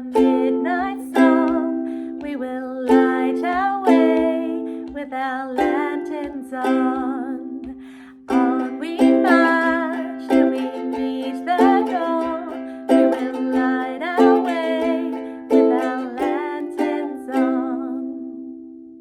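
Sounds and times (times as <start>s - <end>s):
ukulele strumming chords: 0.0s - 19.0s.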